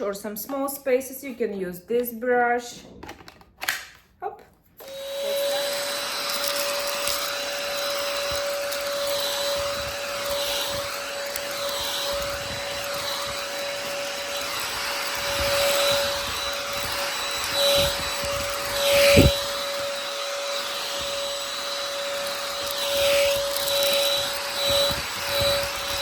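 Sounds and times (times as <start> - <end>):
stick vacuum running: 4.8 - 26.0.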